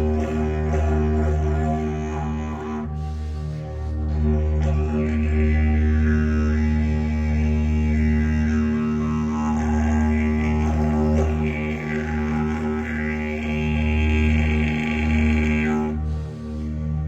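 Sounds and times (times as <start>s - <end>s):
didgeridoo drone: 0.0s - 17.0s.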